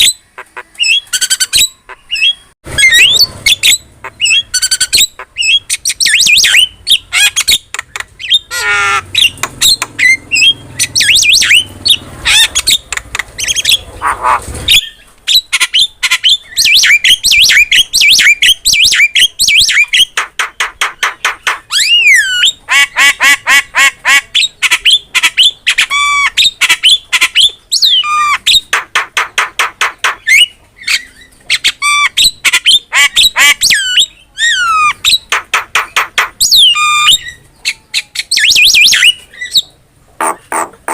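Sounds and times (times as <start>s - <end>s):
bird squawks whistles and rattles: 0.8s - 20.2s, 20.8s - 39.7s.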